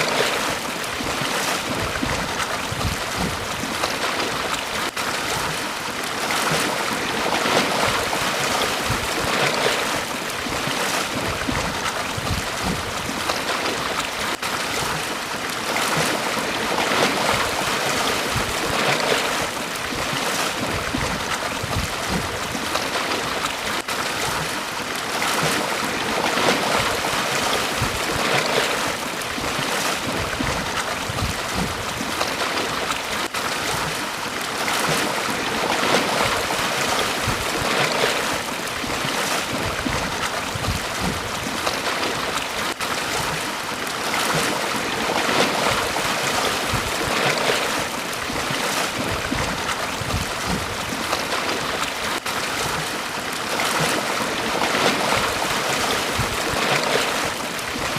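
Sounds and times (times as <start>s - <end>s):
small waves washing onto beach: 0.0s - 57.9s.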